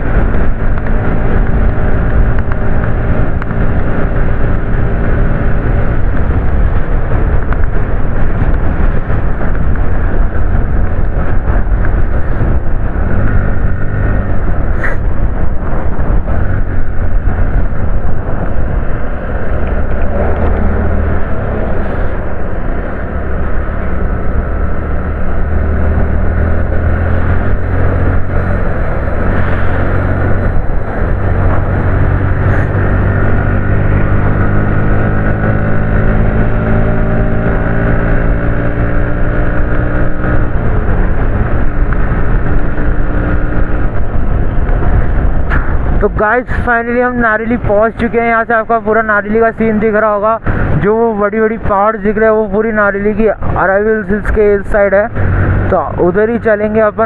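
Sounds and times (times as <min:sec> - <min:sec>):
motorcycle engine running: 0:00.0 - 0:50.8
wind rushing over microphone: 0:00.0 - 0:57.0.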